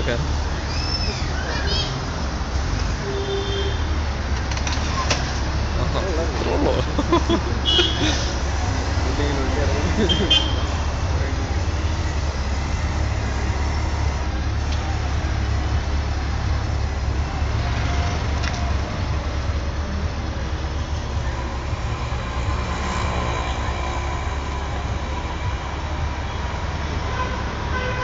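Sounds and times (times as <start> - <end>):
street traffic: 0.0 - 28.0
motorcycle engine rumbling: 4.0 - 26.7.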